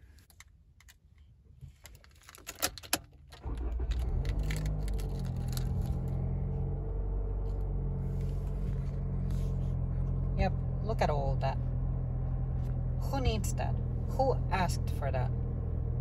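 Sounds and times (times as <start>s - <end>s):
car engine starting and idling: 2.8s - 16.0s.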